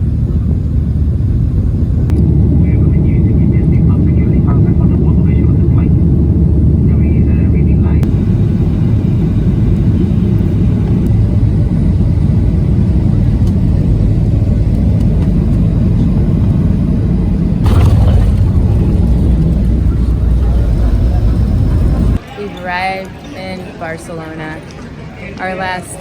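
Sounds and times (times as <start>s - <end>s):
moving vehicle rumble: 0.0s - 22.2s.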